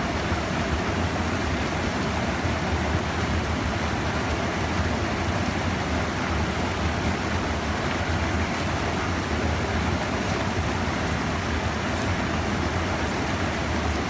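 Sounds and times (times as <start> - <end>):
stream water rushing over dam: 0.0 - 14.0.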